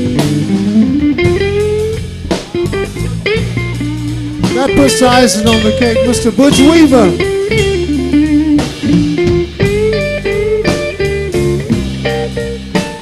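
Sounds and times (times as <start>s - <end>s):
band backing: 0.0s - 13.0s
blues electric guitar solo: 0.0s - 13.0s.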